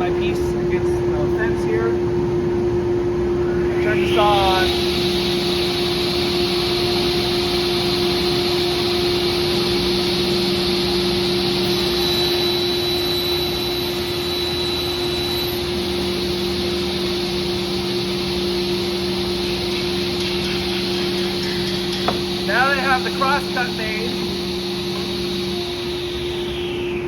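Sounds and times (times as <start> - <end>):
table saw cutting panel: 3.9 - 27.0.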